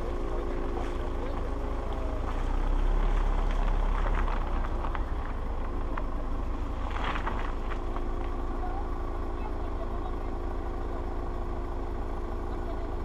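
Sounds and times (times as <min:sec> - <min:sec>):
tyres clicking through mud: 0:00.0 - 0:13.0
vehicle engine rumbling: 0:00.0 - 0:13.0.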